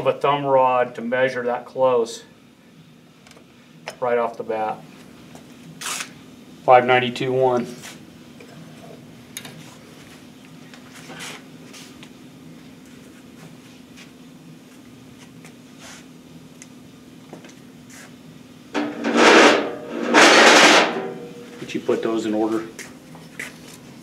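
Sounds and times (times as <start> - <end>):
shop equipment hum: 0.0 - 24.0.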